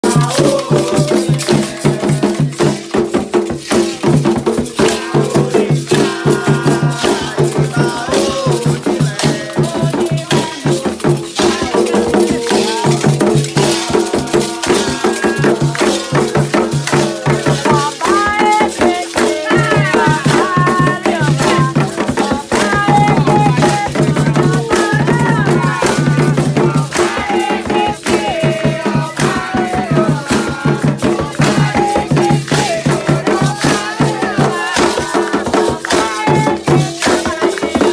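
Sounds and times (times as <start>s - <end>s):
drum strokes: 0.0s - 37.9s
rattles shaking: 0.0s - 37.9s
voices singing: 0.0s - 37.9s.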